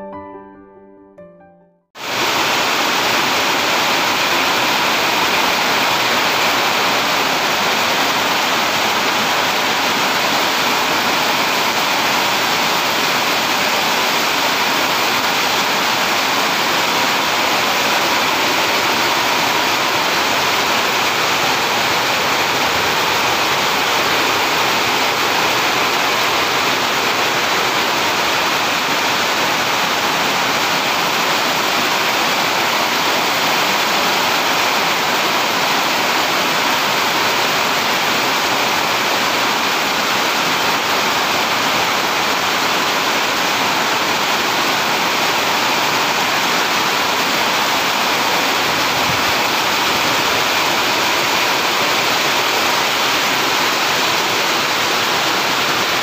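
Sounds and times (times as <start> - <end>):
heavy rain pouring: 2.0 - 56.0.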